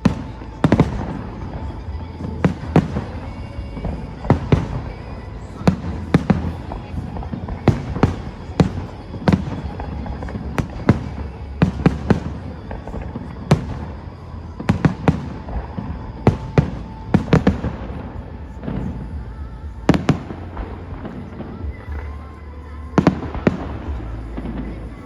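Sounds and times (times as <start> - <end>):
faint music: 0.0 - 25.0
fireworks bangs: 0.0 - 25.0
low rumble: 0.0 - 25.0.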